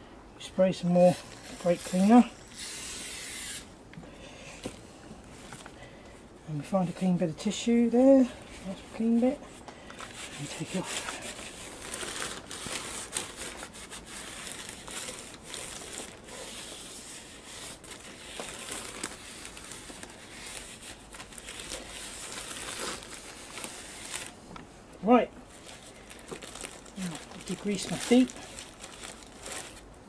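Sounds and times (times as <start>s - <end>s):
paper tissue rustling: 0.7s - 3.7s, 6.6s - 30.0s.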